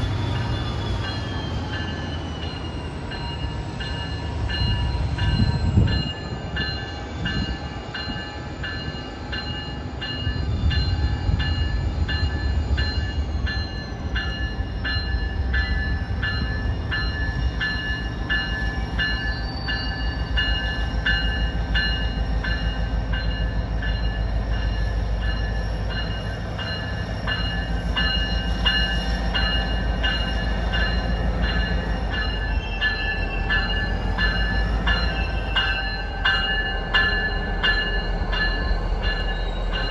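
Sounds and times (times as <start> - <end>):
pulsing high ringing: 0.0 - 39.9
train passing with rumble: 0.0 - 39.9.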